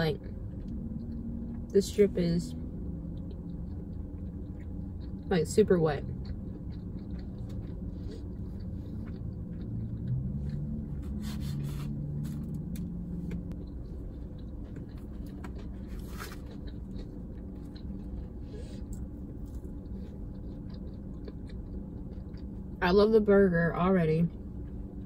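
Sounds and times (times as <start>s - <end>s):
low rumble: 0.0s - 25.0s
person chewing food: 0.1s - 1.8s, 2.5s - 22.8s.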